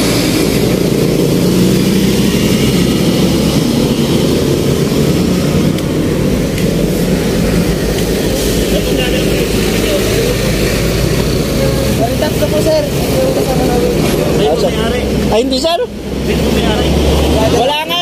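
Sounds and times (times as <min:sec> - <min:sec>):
heavy vehicle engine rumbling: 0:00.0 - 0:18.0
road traffic passing: 0:00.0 - 0:18.0.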